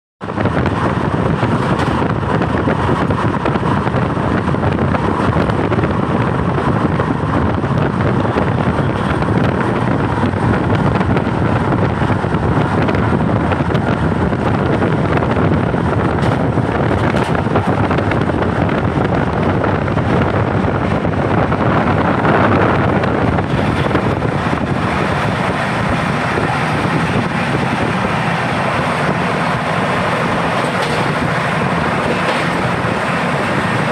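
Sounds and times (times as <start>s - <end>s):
train wheels rushing on rails: 0.2s - 33.9s
wind noise: 0.2s - 33.9s.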